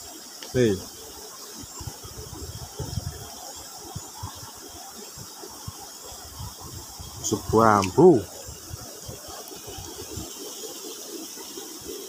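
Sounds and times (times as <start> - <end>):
faint high-pitched hiss: 0.0 - 12.0.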